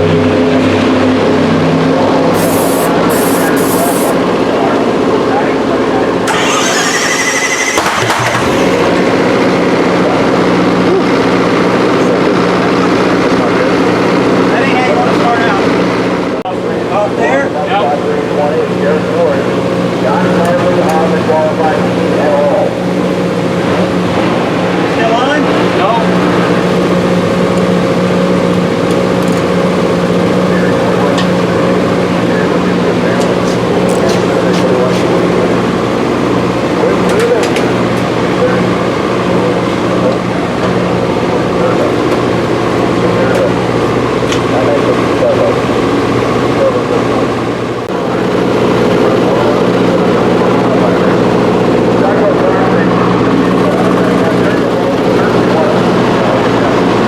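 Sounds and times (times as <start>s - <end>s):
steady engine drone: 0.0s - 57.0s.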